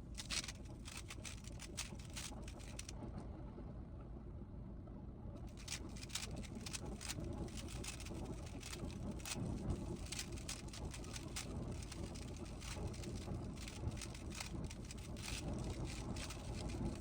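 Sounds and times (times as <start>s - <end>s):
low background rumble: 0.0s - 17.0s
plastic puzzle cube clicking: 0.2s - 2.9s, 5.6s - 17.0s.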